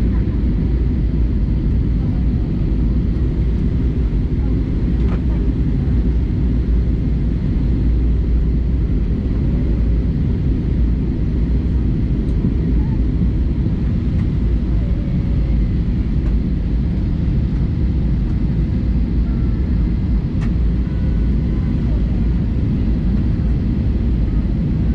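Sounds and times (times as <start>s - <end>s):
aircraft cabin engine rumble: 0.0s - 24.9s.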